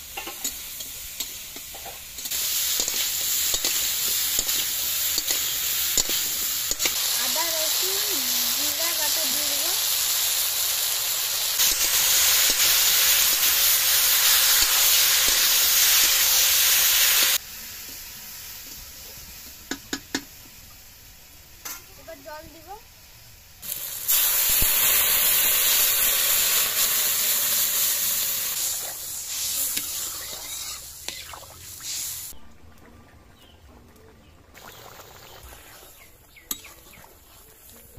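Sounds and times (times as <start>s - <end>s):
vegetables sizzling in oil: 0.0s - 32.4s.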